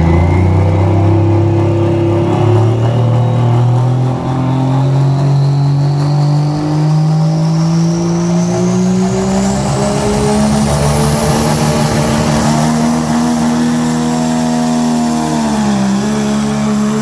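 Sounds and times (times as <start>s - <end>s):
vehicle engine running under load: 0.0s - 17.0s.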